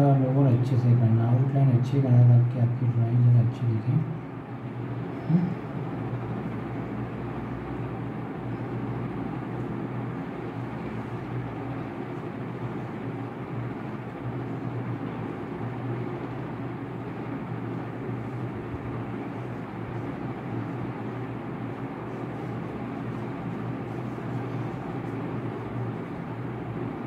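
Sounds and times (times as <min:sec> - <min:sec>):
steady rumbling noise: 0:00.0 - 0:27.0
low hum: 0:04.1 - 0:27.0.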